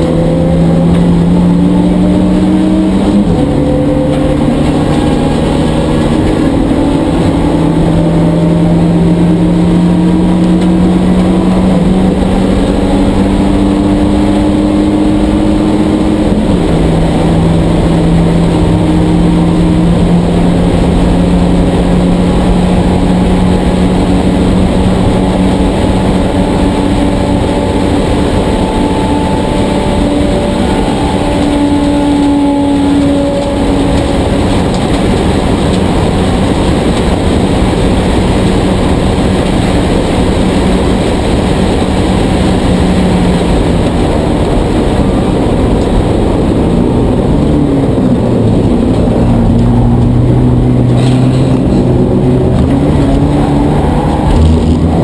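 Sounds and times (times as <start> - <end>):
race car engine at full throttle: 0.0 - 55.0
wind and road noise: 0.0 - 55.0.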